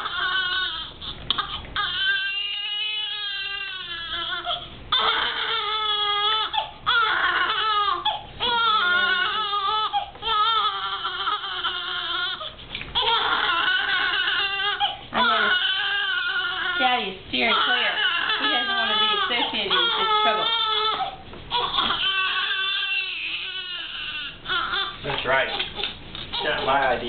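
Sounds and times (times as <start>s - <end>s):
infant crying: 0.0s - 26.9s.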